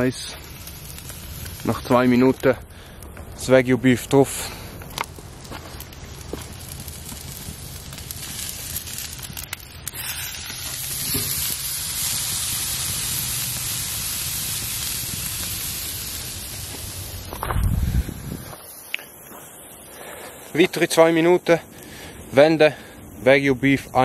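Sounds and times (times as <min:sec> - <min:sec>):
steak sizzling on a grill: 0:00.0 - 0:24.0.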